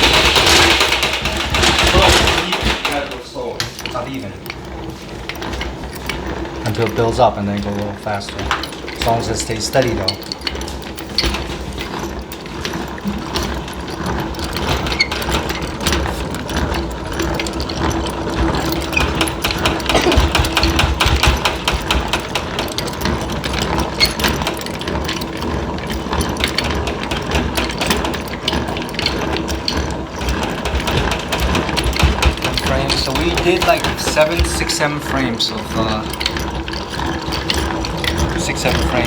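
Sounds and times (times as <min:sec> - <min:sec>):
honey extractor gear clattering: 0:00.0 - 0:39.0.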